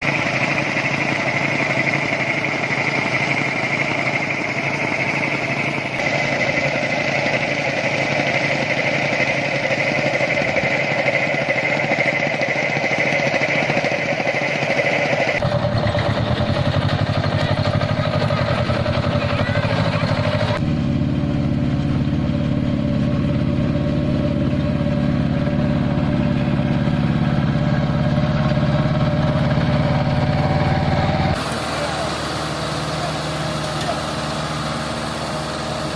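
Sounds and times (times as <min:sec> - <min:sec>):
walking tractor engines running: 0:00.0 - 0:35.9.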